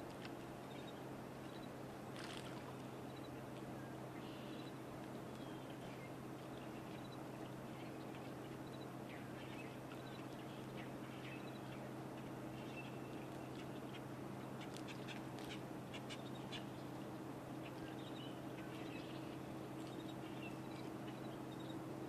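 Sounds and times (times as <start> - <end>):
steady low hum: 0.0 - 22.0
birds chirping faintly: 0.1 - 22.0.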